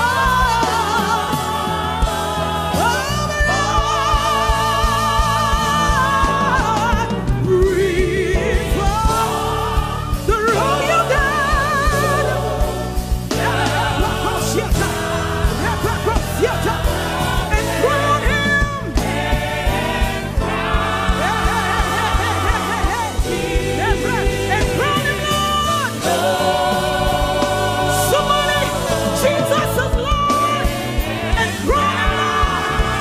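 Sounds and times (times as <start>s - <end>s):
choir singing held notes: 0.0s - 7.0s, 8.1s - 33.0s
band backing with beat: 0.0s - 33.0s.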